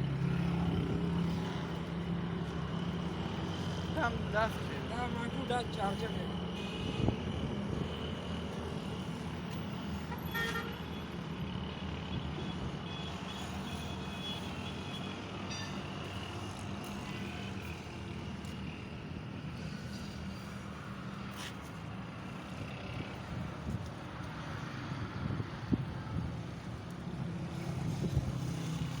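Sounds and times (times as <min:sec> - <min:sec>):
road and traffic noise: 0:00.0 - 0:29.0.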